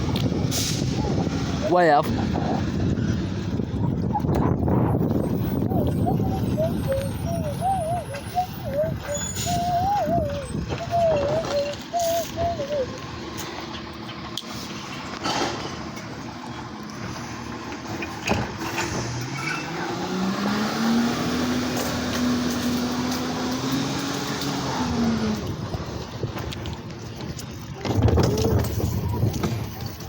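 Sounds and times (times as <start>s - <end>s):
truck engine revving: 0.0s - 27.3s.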